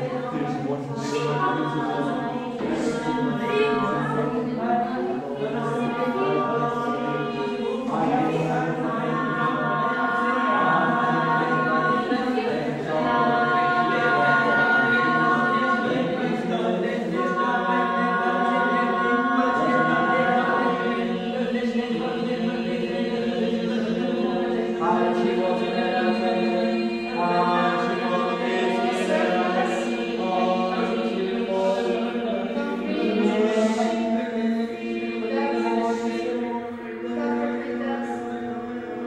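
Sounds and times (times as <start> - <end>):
group of voices singing: 0.0 - 39.0.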